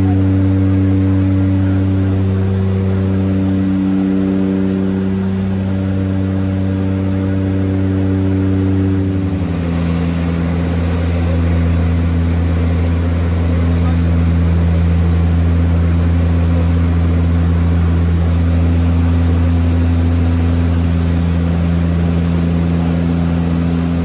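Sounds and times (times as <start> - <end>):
turboprop cockpit drone: 0.0 - 24.0.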